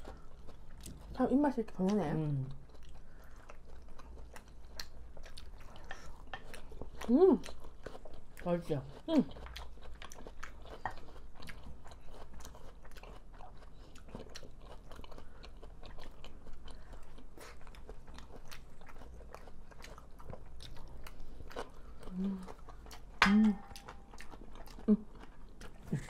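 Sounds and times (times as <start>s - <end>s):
chewing and wet mouth sounds: 0.0s - 26.0s.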